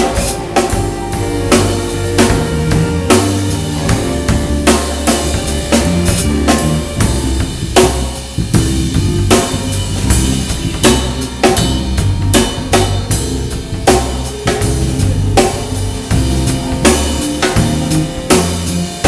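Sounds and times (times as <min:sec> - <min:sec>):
band music with drum kit: 0:00.0 - 0:19.0.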